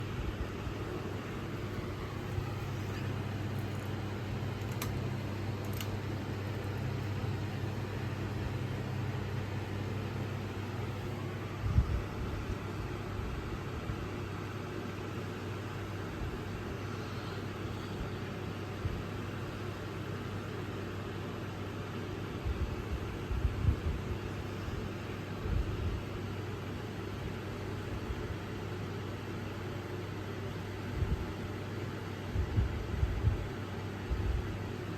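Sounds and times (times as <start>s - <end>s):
ceiling fan running: 0.0s - 34.9s.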